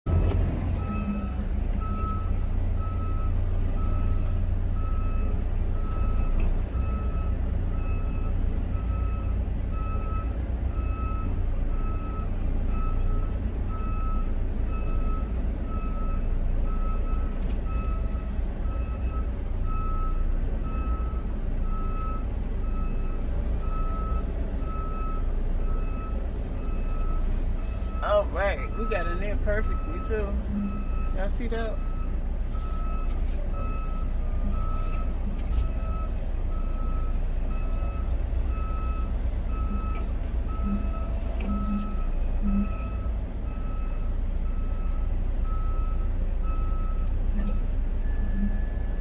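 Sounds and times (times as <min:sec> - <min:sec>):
diesel engine low rumble: 0:00.0 - 0:49.0
truck backup alarm beeping: 0:00.1 - 0:49.0.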